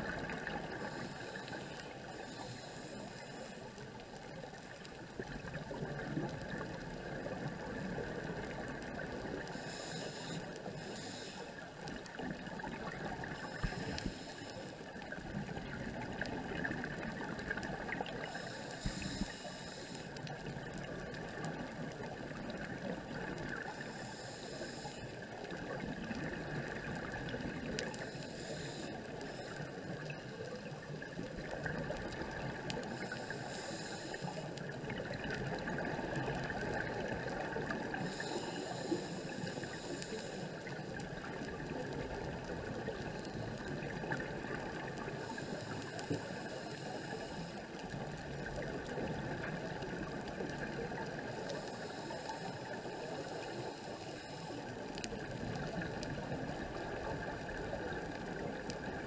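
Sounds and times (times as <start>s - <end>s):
underwater crackling hiss: 0.0s - 59.0s.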